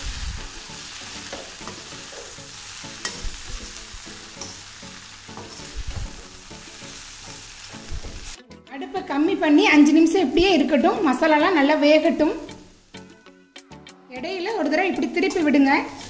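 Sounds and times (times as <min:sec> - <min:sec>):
potatoes sizzling in oil: 0:00.0 - 0:08.4, 0:09.4 - 0:13.3, 0:14.4 - 0:16.0.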